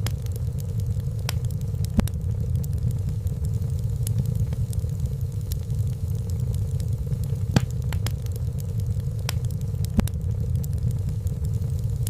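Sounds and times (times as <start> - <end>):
crackles and pops of burning logs: 0.0 - 12.0
wood fire rumbling: 0.0 - 12.0.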